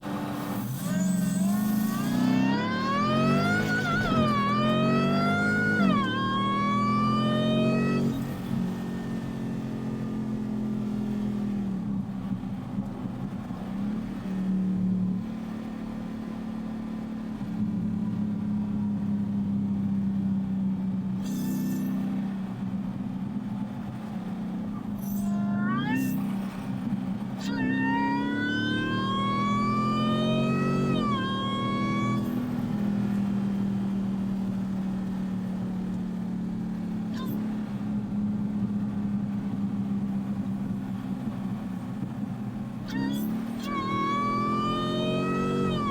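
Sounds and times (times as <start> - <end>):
supercharger whining: 0.0 - 18.1, 20.5 - 45.9
car engine running: 0.0 - 45.9.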